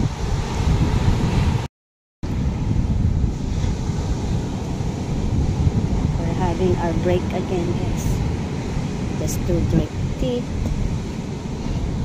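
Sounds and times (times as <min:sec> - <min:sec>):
surf breaking on beach: 0:00.0 - 0:01.7, 0:02.3 - 0:12.0
wind buffeting microphone: 0:00.0 - 0:12.0.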